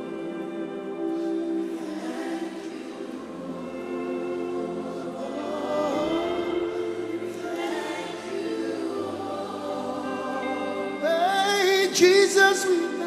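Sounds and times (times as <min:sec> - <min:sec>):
congregation singing worship song: 0:00.0 - 0:13.0
lead voice singing with vibrato: 0:00.0 - 0:13.0
sustained backing chords: 0:00.0 - 0:13.0.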